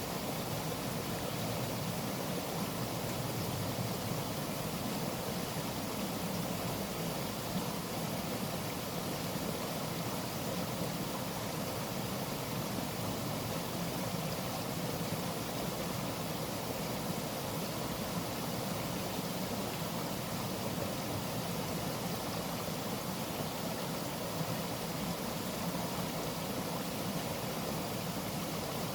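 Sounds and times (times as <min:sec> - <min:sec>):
waterfall rushing water: 0:00.0 - 0:28.9.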